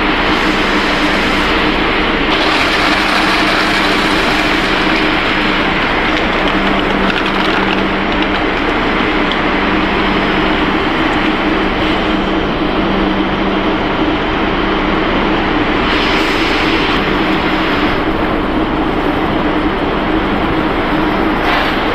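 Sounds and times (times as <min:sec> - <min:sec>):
factory machinery running: 0:00.0 - 0:21.9.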